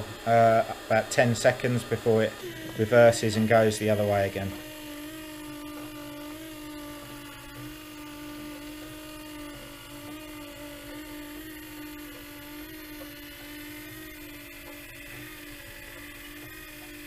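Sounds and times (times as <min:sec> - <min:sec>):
small electric motor humming: 0:00.0 - 0:17.0.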